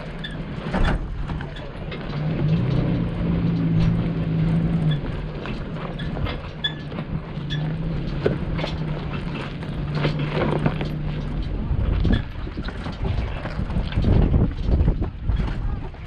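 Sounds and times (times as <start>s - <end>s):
truck engine humming: 0.0s - 14.5s
vehicle knocking and rattling: 0.0s - 16.0s.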